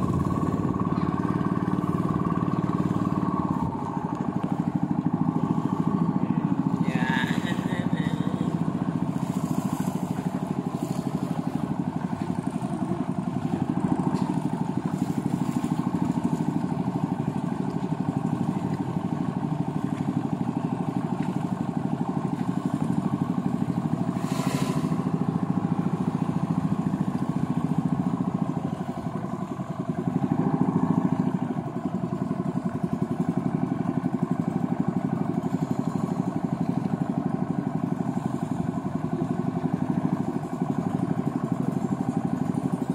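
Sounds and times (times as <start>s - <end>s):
small boat engine running: 0.0s - 42.9s.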